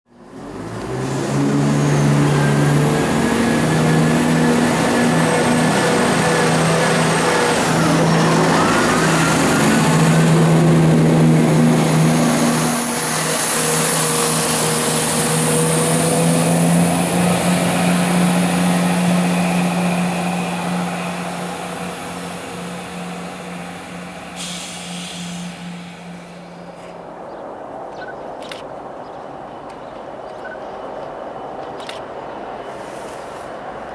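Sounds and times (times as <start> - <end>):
diesel train engine drone: 0.1 - 33.9.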